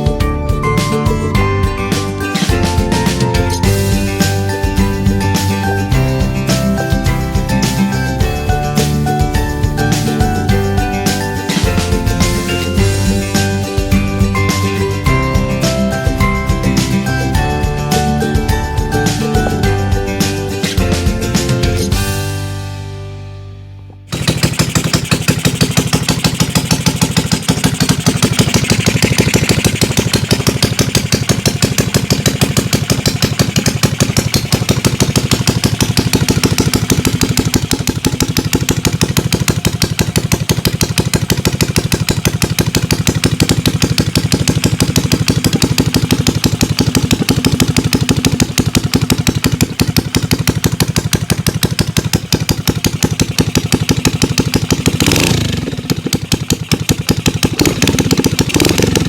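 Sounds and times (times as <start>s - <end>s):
motorcycle engine idling: 0.1s - 22.3s, 23.8s - 59.0s.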